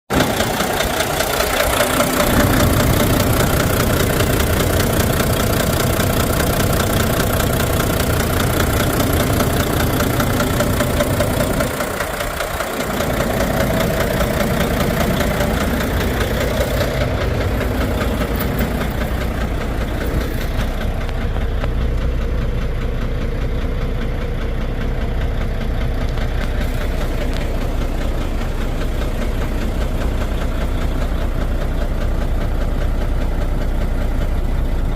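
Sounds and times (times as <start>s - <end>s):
diesel engine idling and misfiring: 0.1s - 34.9s.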